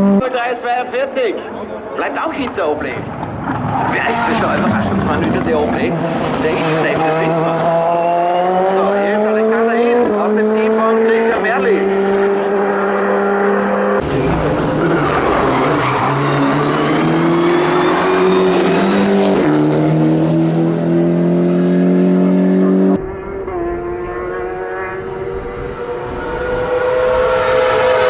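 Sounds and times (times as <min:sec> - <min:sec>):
race car engine at full throttle: 0:00.0 - 0:28.0.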